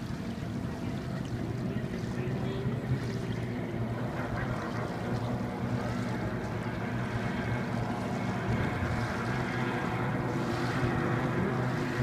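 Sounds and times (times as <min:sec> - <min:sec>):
racing boat engine droning: 0:00.0 - 0:12.0.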